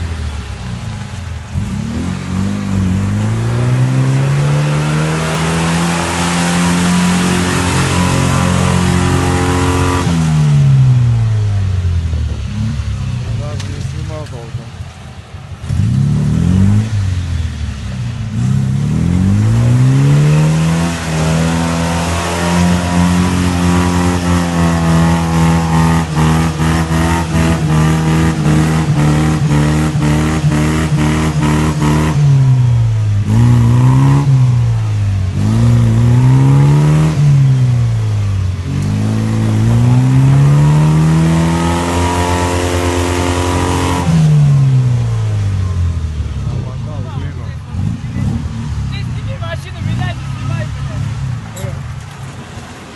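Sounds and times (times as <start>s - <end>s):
petrol engine revving: 0.0s - 52.9s.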